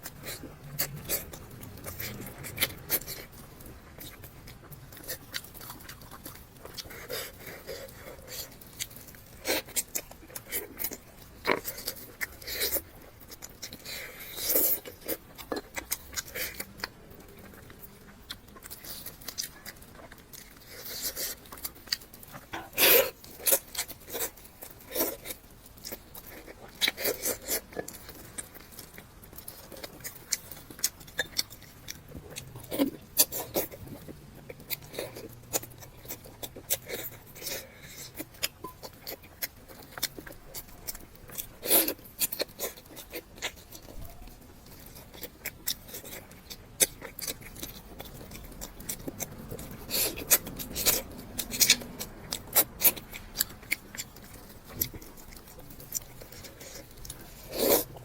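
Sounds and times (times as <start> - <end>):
person biting and chewing: 0.0 - 58.0.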